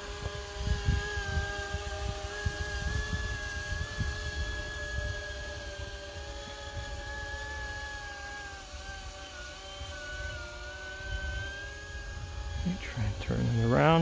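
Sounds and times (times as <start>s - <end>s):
wind rumble on microphone: 0.0s - 7.9s, 9.8s - 14.0s
electric model motors whining: 0.0s - 14.0s.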